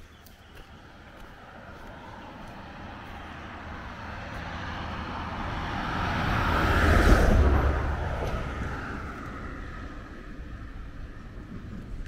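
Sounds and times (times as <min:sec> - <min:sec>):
truck passing by: 0:00.0 - 0:12.0.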